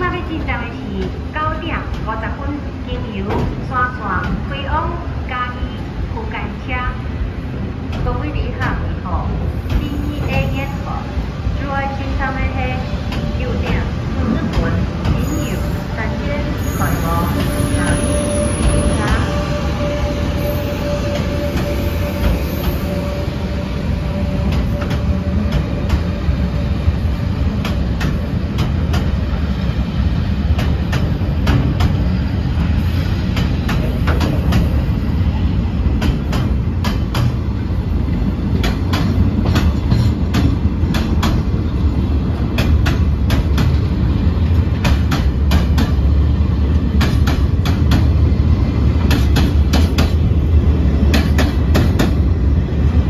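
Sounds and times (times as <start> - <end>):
freight train rumble: 0.0 - 53.0.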